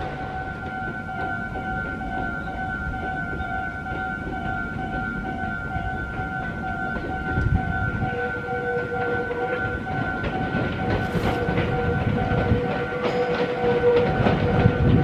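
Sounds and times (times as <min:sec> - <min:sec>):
level crossing alarm ringing: 0:00.0 - 0:15.0
train rumbling: 0:00.0 - 0:15.0.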